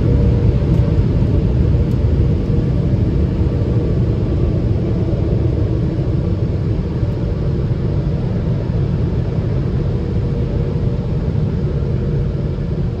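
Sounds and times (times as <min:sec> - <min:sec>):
low rumble inside car cabin: 0:00.0 - 0:13.0.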